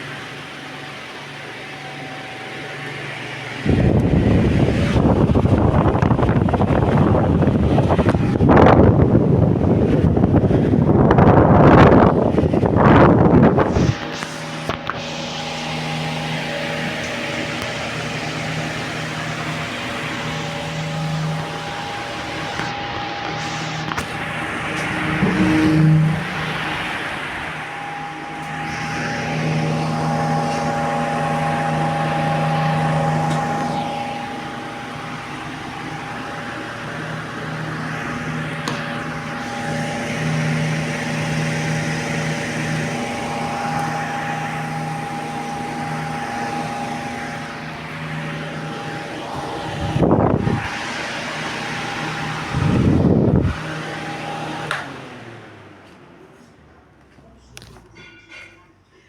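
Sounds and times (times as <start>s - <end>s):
low fan surges: 0.0s - 58.3s
table fan running: 0.0s - 59.0s.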